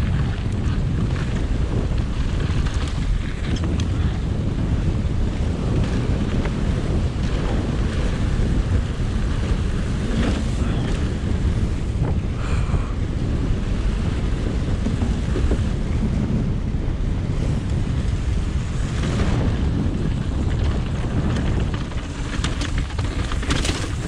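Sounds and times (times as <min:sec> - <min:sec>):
bike clicks and rattles: 0:00.0 - 0:24.0
wind buffeting microphone: 0:00.0 - 0:24.0.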